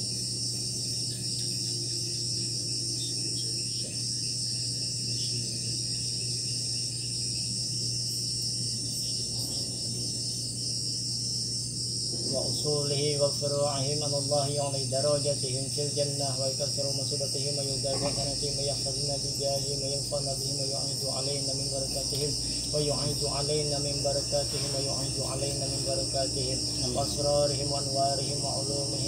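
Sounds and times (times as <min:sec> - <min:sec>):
crickets and night insects chirping: 0:00.0 - 0:29.0
low steady hum: 0:00.0 - 0:29.0.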